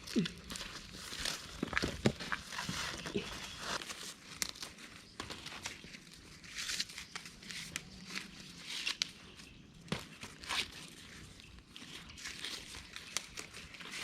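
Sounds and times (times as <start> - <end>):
dry corn leaves rustling: 0.0 - 14.0.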